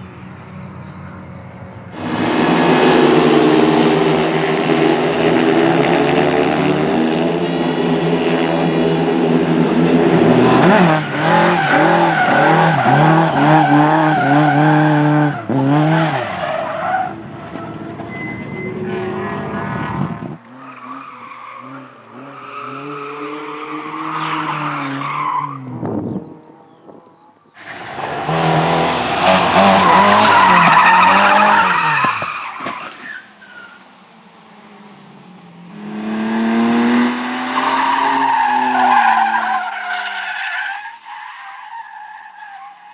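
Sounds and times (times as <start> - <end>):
race car engines revving: 0.0 - 42.5
tyres skidding: 0.0 - 42.9.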